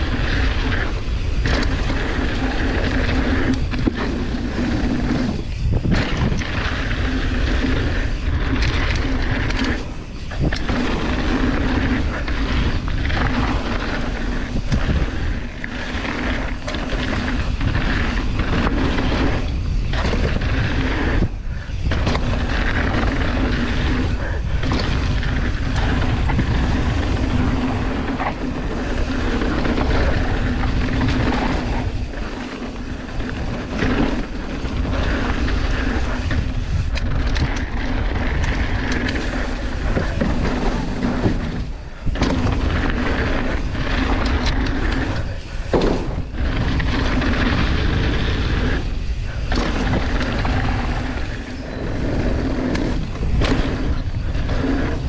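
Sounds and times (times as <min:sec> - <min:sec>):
bike tyres rattling on gravel: 0:00.0 - 0:55.0
wind rushing over microphone: 0:00.0 - 0:55.0.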